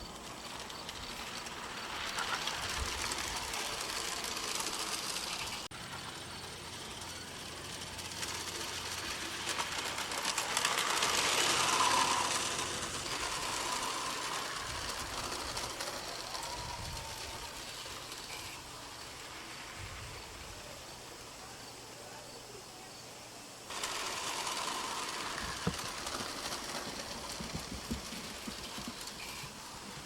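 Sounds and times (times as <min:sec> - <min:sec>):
model train motor whirring: 0:00.0 - 0:22.2, 0:23.7 - 0:30.0
wheels clicking on rails: 0:00.0 - 0:22.2, 0:23.7 - 0:30.0.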